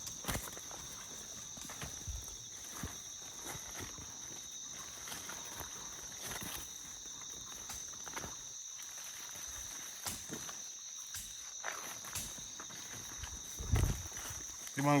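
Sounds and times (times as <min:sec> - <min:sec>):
footsteps on ground and brush: 0:00.0 - 0:15.0
insects trilling: 0:00.0 - 0:15.0.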